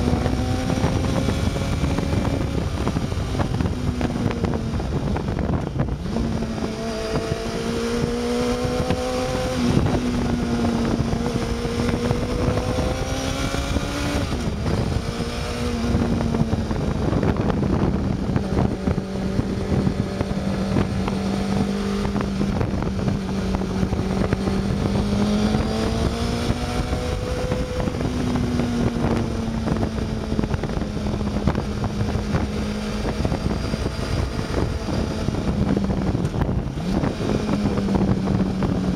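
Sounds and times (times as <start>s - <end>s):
motorcycle engine revving: 0.0s - 38.9s
wind on microphone: 0.0s - 38.9s.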